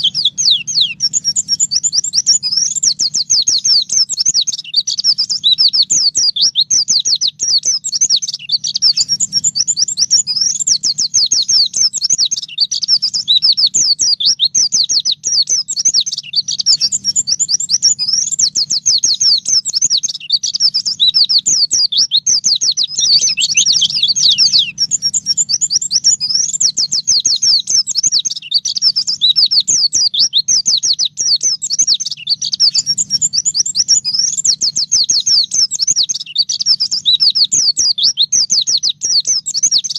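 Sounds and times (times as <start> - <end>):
bird singing fast high twittering: 0.0 - 39.9.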